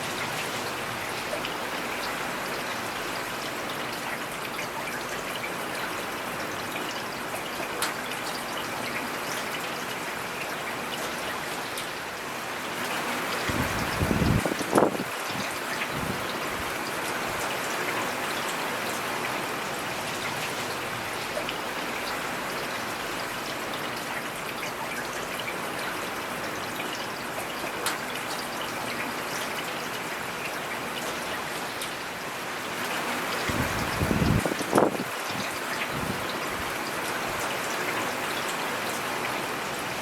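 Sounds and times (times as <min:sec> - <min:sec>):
rain patter: 0:00.0 - 0:40.0
water trickling: 0:00.0 - 0:40.0.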